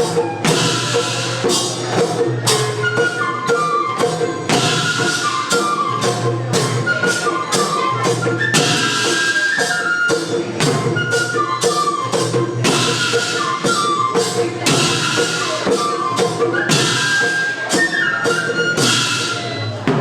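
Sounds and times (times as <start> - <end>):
high wind instrument melody: 0.0 - 19.9
cymbals: 0.0 - 20.0
jingling percussion: 0.0 - 20.0
steady drum beats: 0.0 - 20.0.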